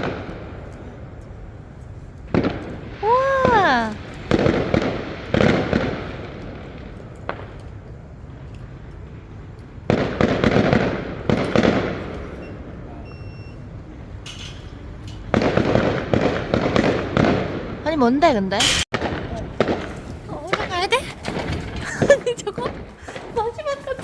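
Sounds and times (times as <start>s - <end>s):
fireworks crackling bangs: 0.0s - 13.0s, 13.6s - 24.0s.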